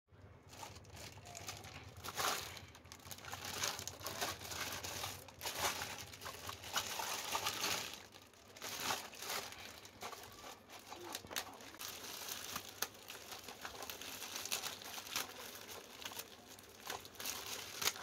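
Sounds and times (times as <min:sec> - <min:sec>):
plastic bag crinkling: 0:00.2 - 0:18.0.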